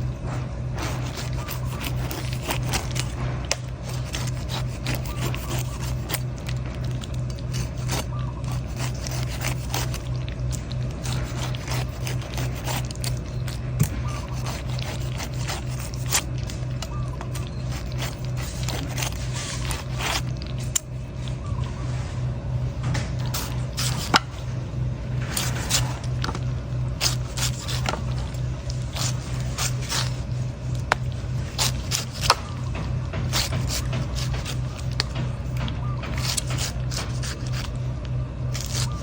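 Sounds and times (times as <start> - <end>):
knife scraping coconut: 0.0 - 22.3, 22.9 - 24.6, 25.2 - 39.0
pulsing low hum: 0.0 - 39.0.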